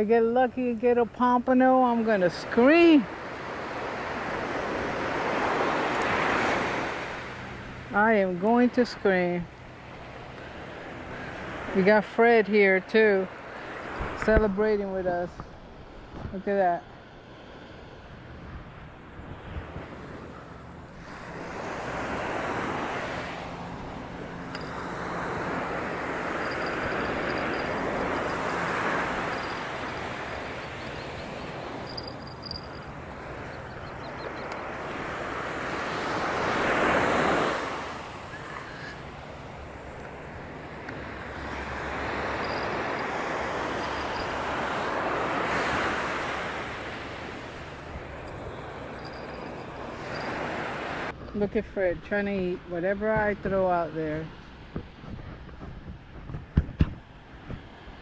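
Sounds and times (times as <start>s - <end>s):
waves breaking: 0.0s - 58.0s.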